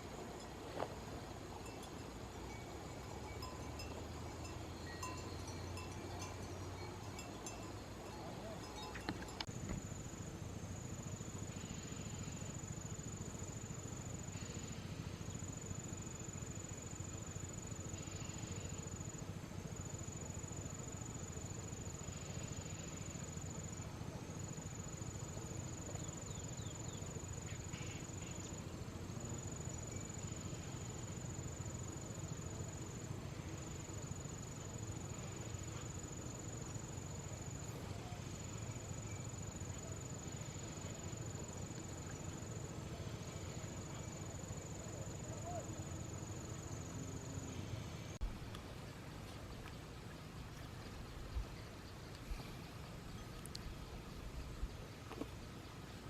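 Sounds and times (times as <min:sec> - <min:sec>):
fainter pulsing insect calls: 0:00.0 - 0:56.0
insects trilling: 0:00.0 - 0:56.0
low background noise: 0:00.0 - 0:56.0.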